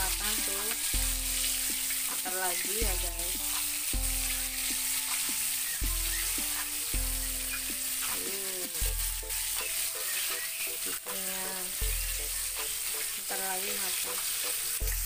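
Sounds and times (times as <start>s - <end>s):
chicken sizzling in hot oil: 0.0s - 15.0s
spatula stirring in wok: 0.0s - 15.0s.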